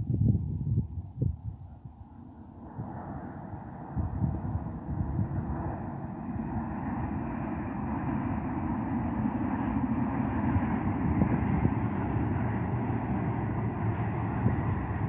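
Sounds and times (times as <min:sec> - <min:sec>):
high-speed train rumbling past: 0:02.0 - 0:15.0.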